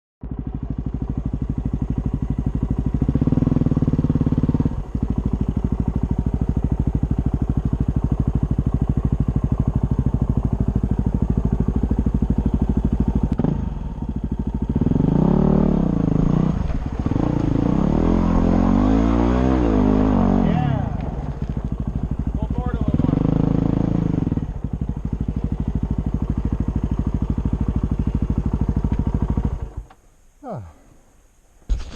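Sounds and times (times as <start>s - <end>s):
dirt bike engine idling and revving: 0.2s - 30.7s.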